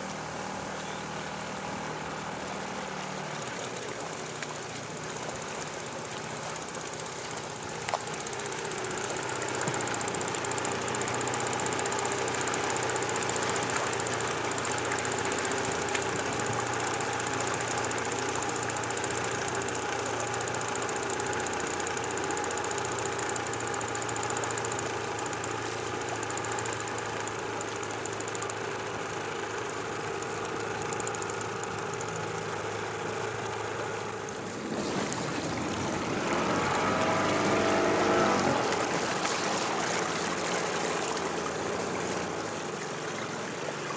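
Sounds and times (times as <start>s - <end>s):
boat engine humming: 0.0s - 43.9s
rushing water: 0.0s - 43.9s.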